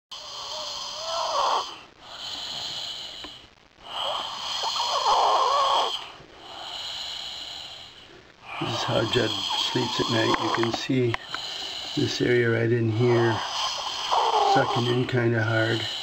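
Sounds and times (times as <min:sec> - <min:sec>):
labored breathing in sleep: 0:00.1 - 0:16.0.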